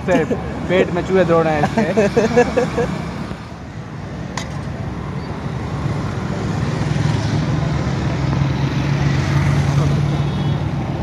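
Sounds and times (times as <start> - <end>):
road traffic: 0.0 - 11.0
vehicle engine hum: 0.0 - 11.0.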